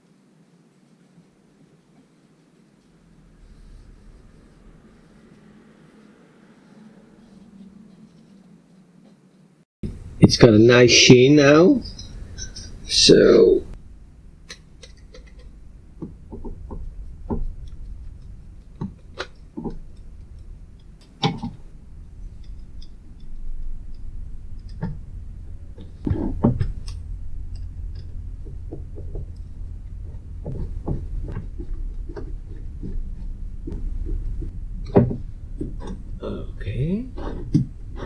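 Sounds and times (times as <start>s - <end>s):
low steady rumble: 1.2s - 8.9s, 9.8s - 38.0s.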